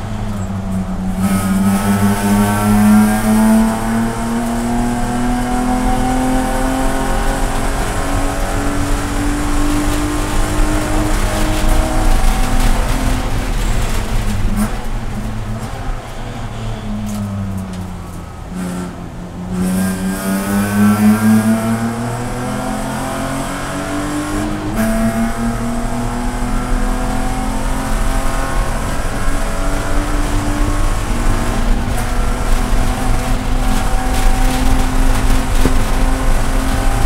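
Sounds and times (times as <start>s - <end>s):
race car engine accelerating: 0.0s - 16.5s, 17.1s - 37.0s.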